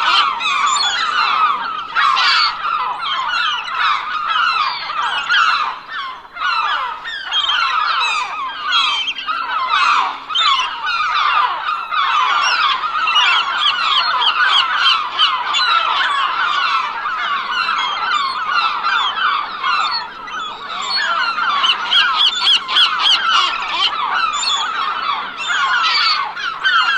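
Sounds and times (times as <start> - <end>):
gulls squawking: 0.0 - 26.9.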